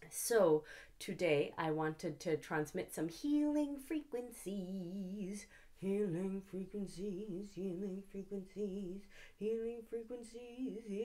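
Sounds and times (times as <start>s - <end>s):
woman singing wordless syllables: 0.0s - 11.0s.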